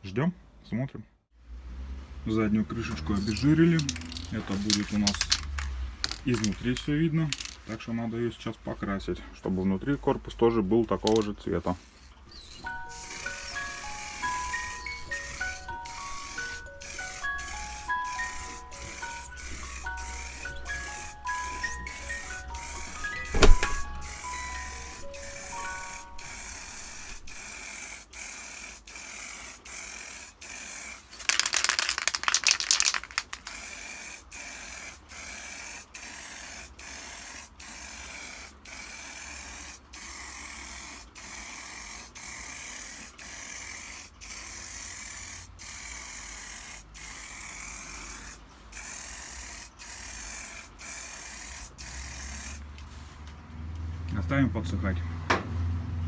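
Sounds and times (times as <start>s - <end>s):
spray can hissing in bursts: 3.2s - 7.6s, 12.4s - 53.2s.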